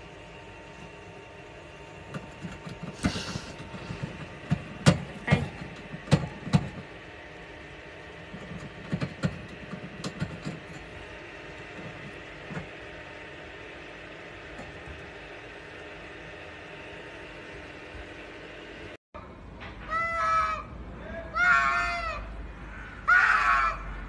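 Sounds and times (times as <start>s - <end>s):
steady hum: 0.0s - 19.6s.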